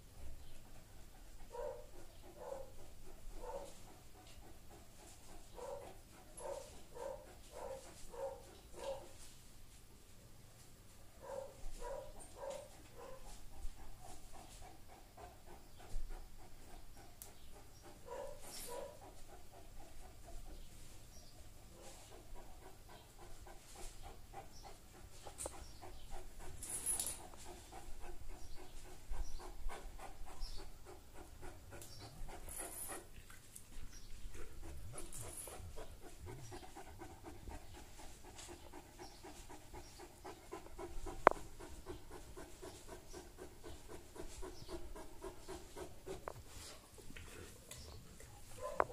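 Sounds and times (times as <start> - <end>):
dog panting: 0.2 - 9.3, 11.2 - 48.9.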